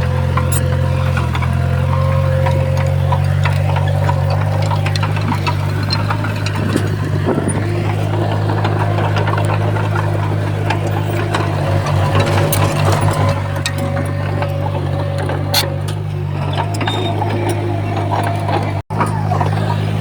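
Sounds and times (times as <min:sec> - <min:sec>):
bulldozer diesel engine running: 0:00.0 - 0:20.0
clanks from tracks: 0:00.0 - 0:20.0.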